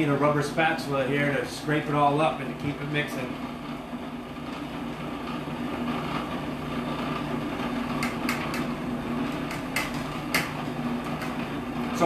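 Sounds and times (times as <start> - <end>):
food processor motor running: 0.0 - 12.0.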